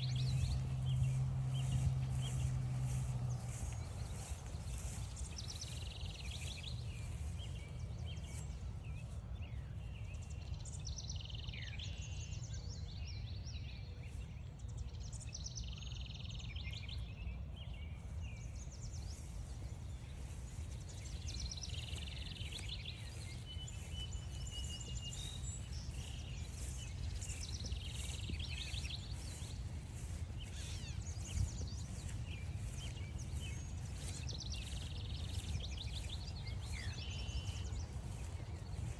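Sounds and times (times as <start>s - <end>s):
steady low rumble: 0.0s - 10.2s, 17.2s - 38.9s
songbirds singing: 0.0s - 38.9s.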